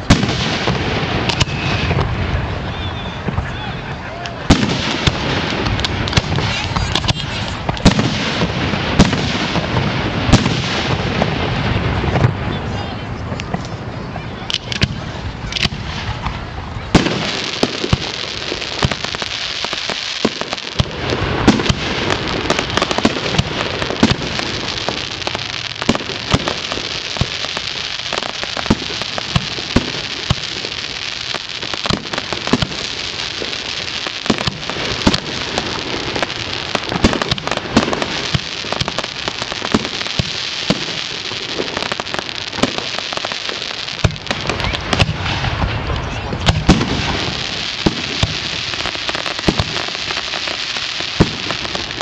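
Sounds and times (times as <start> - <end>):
fireworks crackling: 0.0 - 52.0
fireworks pops and bangs: 0.0 - 52.0.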